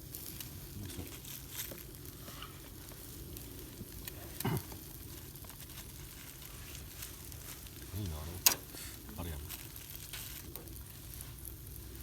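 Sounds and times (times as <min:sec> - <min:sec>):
beef sizzling on a grill: 0:00.0 - 0:12.0.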